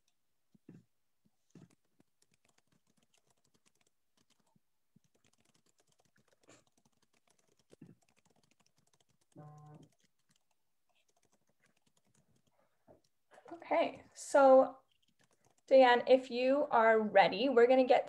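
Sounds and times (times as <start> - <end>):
keyboard typing: 0.0 - 14.1, 14.8 - 16.2.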